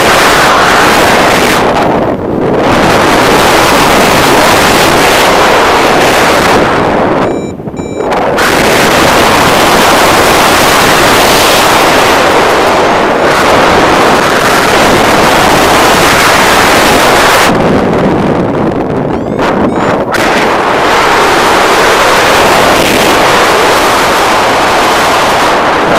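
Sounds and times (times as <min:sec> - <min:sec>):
wind rushing over microphone: 0:00.0 - 0:25.9.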